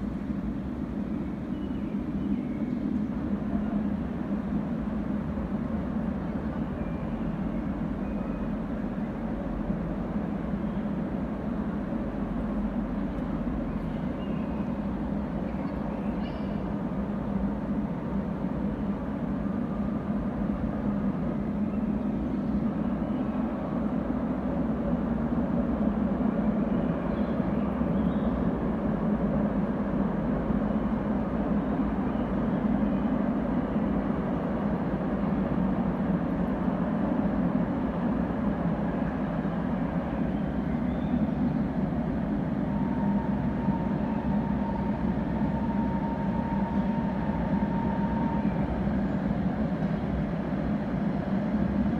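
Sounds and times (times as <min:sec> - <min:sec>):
thin steady whine: 0:00.0 - 0:51.9
tram rumbling in tunnel: 0:00.0 - 0:51.9.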